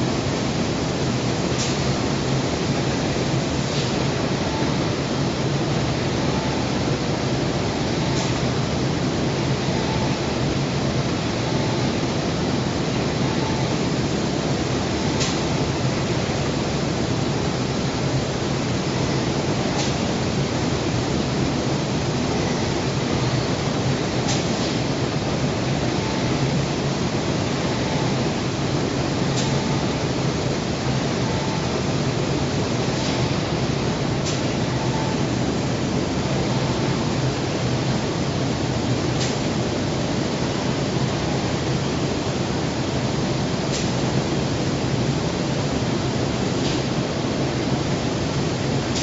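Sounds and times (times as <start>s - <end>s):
robotic paint spraying booth: 0.0s - 49.0s.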